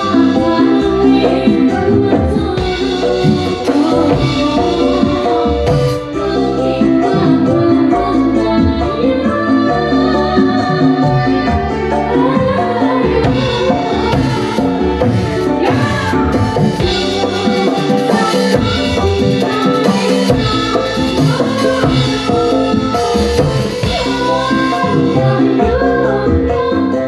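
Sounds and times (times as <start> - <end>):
pitch-bending melody: 0.0 - 26.6
drums and percussion: 0.0 - 27.0.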